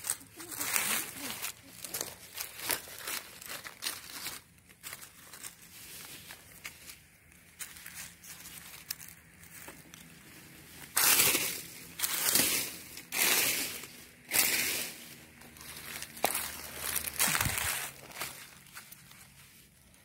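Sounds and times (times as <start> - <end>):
dry leaves crackling and rustling: 0.0 - 20.0.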